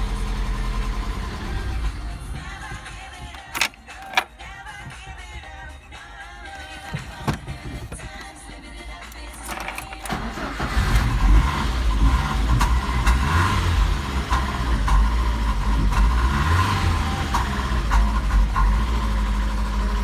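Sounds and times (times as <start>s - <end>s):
car engine starting and running: 0.0s - 2.6s, 3.2s - 4.9s, 6.4s - 20.0s.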